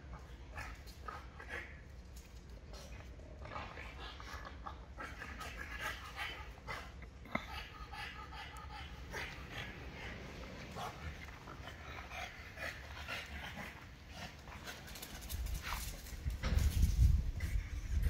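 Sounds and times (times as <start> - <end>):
dog panting and snuffling: 0.2 - 18.0.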